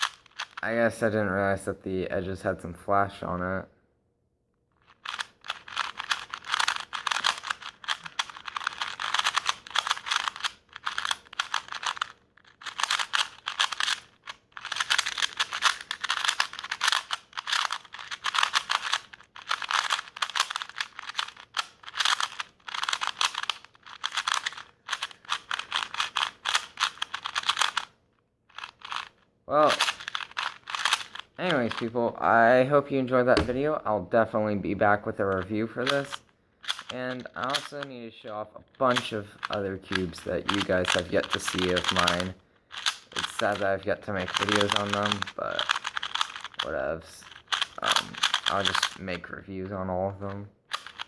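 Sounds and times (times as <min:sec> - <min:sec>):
puzzle cube clicking: 0:00.0 - 0:00.7, 0:04.7 - 0:32.4, 0:35.2 - 0:37.9, 0:38.7 - 0:49.2, 0:50.1 - 0:51.0.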